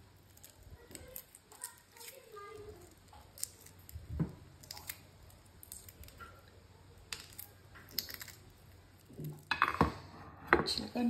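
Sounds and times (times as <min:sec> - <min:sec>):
eggshell crackling: 0:00.0 - 0:10.1.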